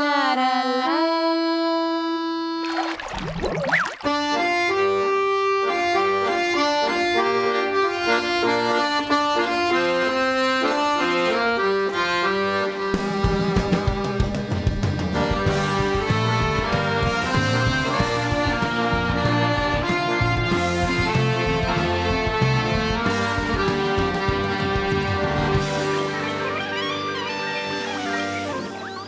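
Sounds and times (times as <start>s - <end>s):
piano accordion melody: 0.1s - 2.8s, 4.1s - 29.0s.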